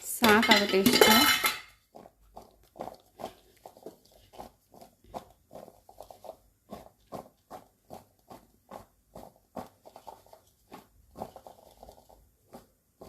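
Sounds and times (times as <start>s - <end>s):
potato sticks tossed in a bowl: 0.0s - 13.0s.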